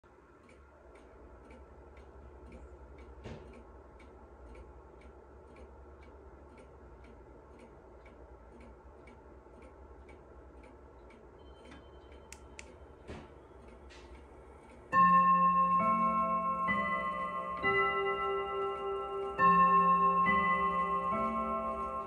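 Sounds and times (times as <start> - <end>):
pendulum clock ticking: 0.0 - 22.0.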